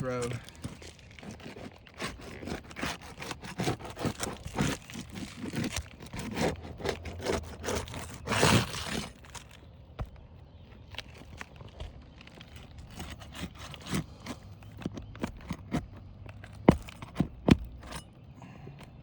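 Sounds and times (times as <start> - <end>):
bar prying roof shingles: 0.0 - 10.2, 10.9 - 19.0.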